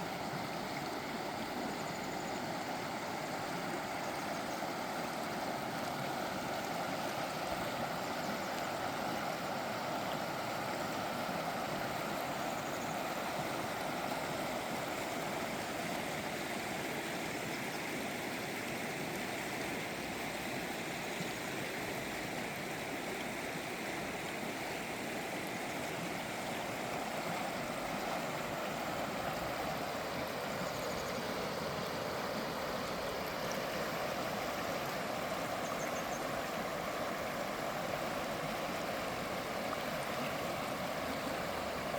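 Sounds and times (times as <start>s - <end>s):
river flowing past rocks: 0.0s - 41.9s.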